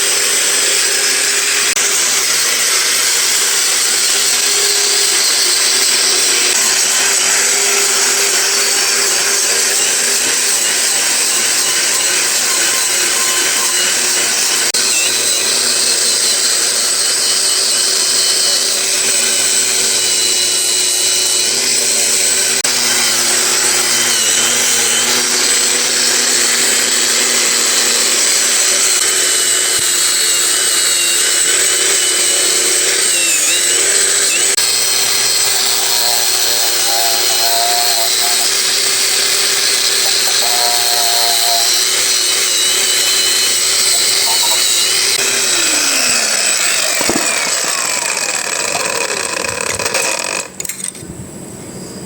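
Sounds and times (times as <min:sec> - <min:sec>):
power tool whining: 0:00.0 - 0:52.0.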